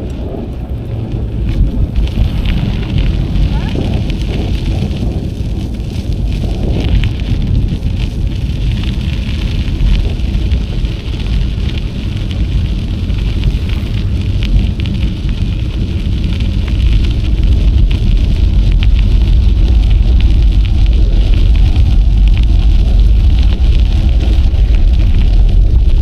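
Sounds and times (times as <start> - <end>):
bicycle tyres crackling on trail: 0.0 - 26.0
wind buffeting microphone: 0.0 - 26.0.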